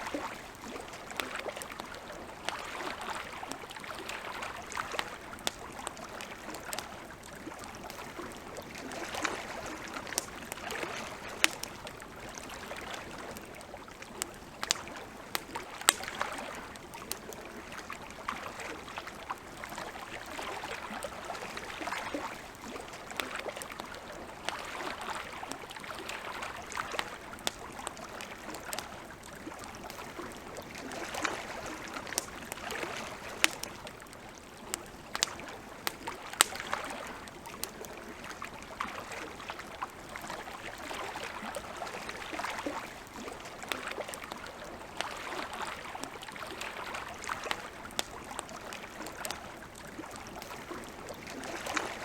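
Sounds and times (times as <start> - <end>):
campfire crackling and popping: 0.0 - 52.0
water lapping softly: 0.0 - 52.0.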